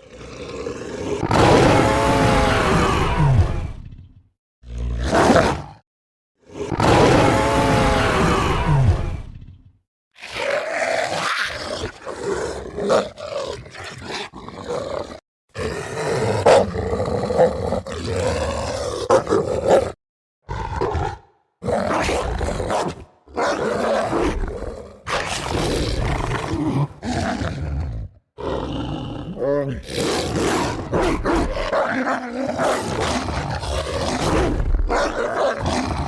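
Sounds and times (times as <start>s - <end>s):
growling monster roars: 0.0s - 5.8s, 6.4s - 9.6s, 10.2s - 36.0s.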